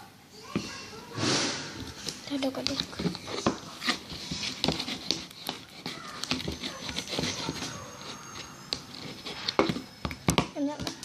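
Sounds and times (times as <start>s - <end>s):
spoon stirring sticky slime: 1.8s - 11.0s.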